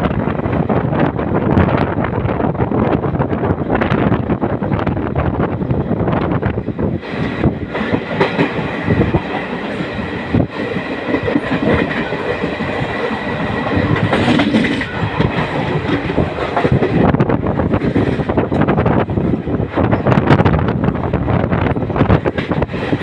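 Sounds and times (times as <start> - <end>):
train rumble: 0.0 - 23.0
train wheels clattering on rails: 0.0 - 23.0.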